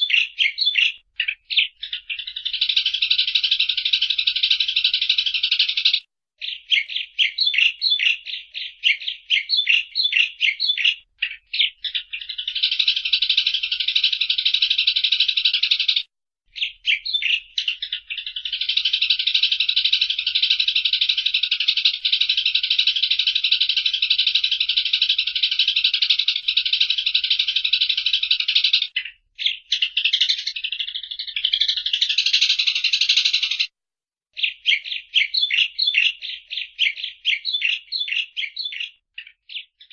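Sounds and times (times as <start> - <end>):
sparrows chattering: 0.0 - 33.7, 34.4 - 39.9.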